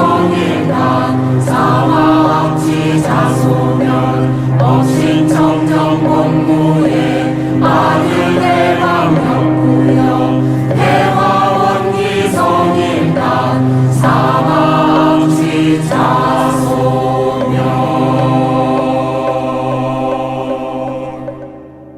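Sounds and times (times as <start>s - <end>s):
choir chanting scripture: 0.0s - 21.9s.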